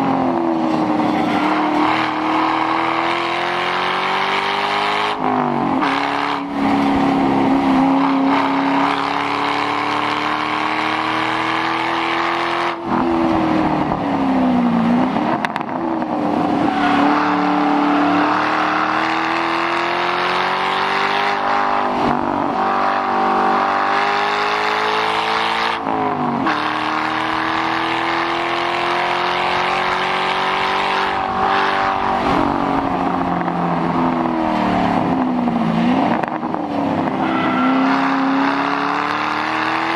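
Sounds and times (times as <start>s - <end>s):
car engine revving and shifting: 0.0s - 39.9s.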